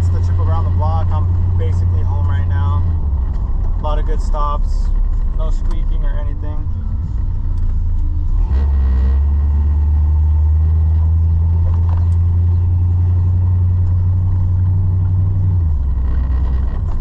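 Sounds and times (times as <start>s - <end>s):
pickup engine and road drone: 0.0s - 17.0s.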